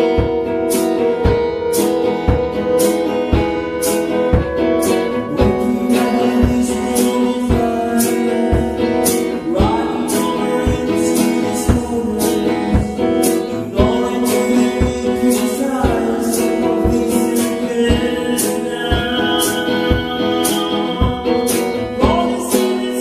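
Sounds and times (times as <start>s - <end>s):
percussion beat: 0.0s - 23.0s
person singing: 0.0s - 23.0s
strummed acoustic guitar: 0.0s - 23.0s.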